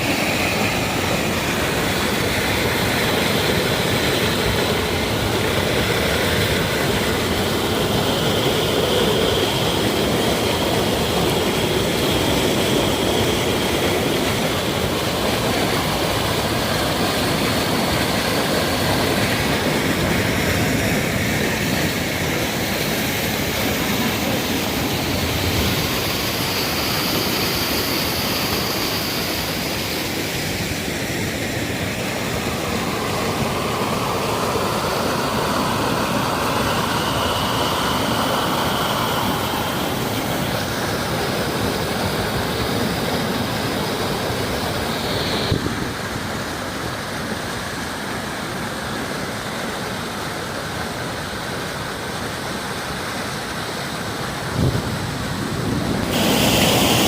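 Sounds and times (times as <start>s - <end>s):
heavy rain: 0.0s - 57.0s
running rainwater: 0.0s - 57.0s.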